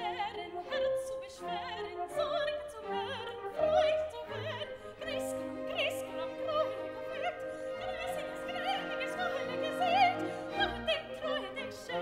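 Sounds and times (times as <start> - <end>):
orchestra with strings: 0.0 - 12.0
woman singing operatically: 0.0 - 12.0.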